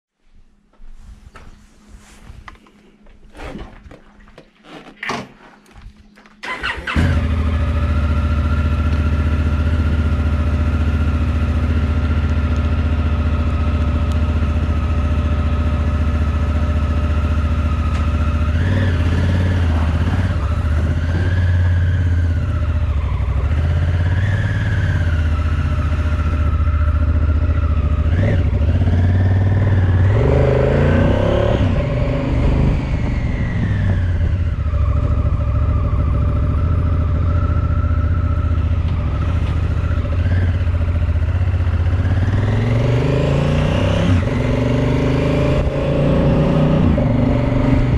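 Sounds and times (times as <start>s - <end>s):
motorcycle engine starting and idling: 4.6s - 46.0s
motorcycle riding slowly: 5.6s - 47.9s.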